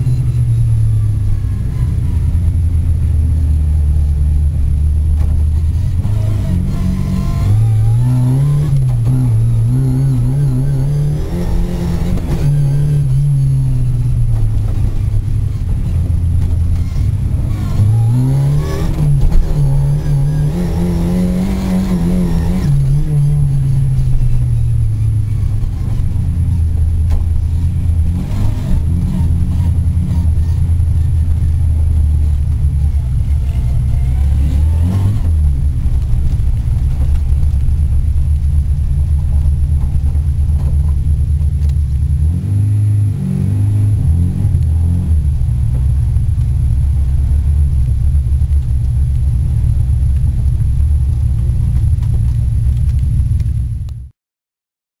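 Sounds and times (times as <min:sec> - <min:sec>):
rally car engine revving: 0:00.0 - 0:54.1.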